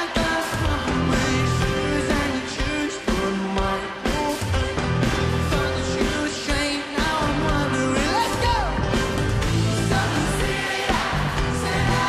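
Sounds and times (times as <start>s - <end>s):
live band playing synth-pop: 0.0s - 12.0s.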